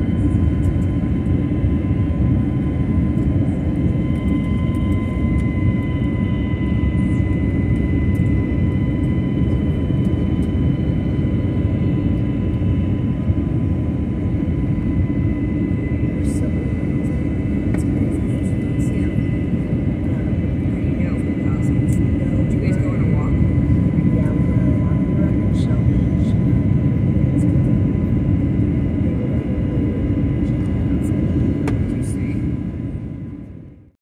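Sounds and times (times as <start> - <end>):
jet engine rumble in cabin: 0.0 - 34.0.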